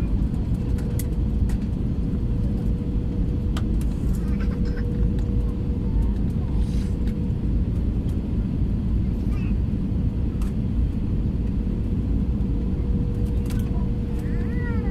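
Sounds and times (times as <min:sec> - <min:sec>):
airliner engines from cabin: 0:00.0 - 0:14.9.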